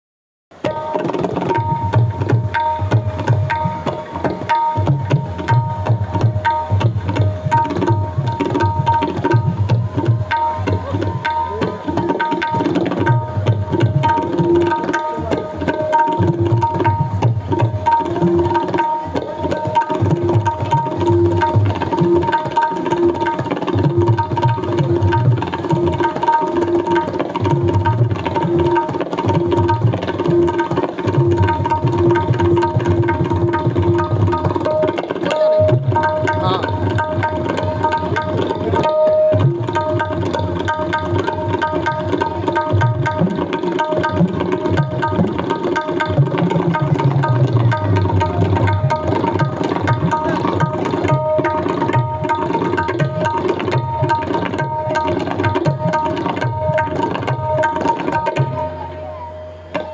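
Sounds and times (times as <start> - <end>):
tabla playing fast rhythm: 0.5 - 59.9.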